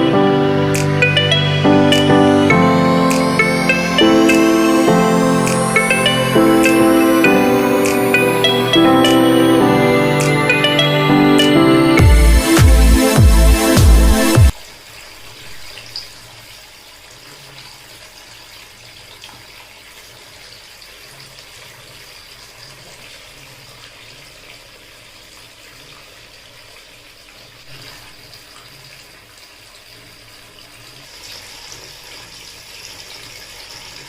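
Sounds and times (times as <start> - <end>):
fountain water trickling: 0.0 - 10.3, 14.5 - 34.0.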